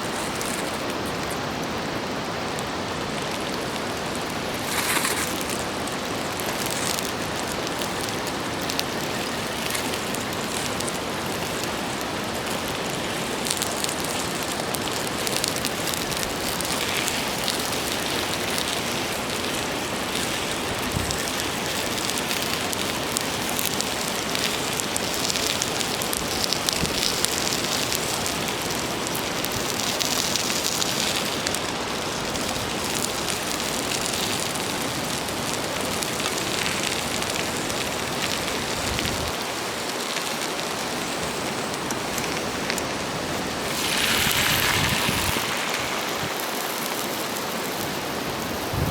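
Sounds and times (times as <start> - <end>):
fire crackles and pops: 0.0 - 48.9
food sizzling on griddle: 0.0 - 48.9.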